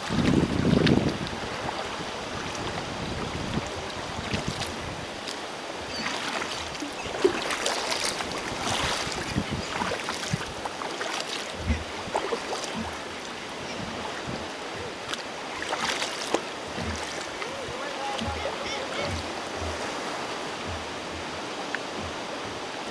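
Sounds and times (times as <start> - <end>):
water splashing against kayak hull: 0.0 - 22.9.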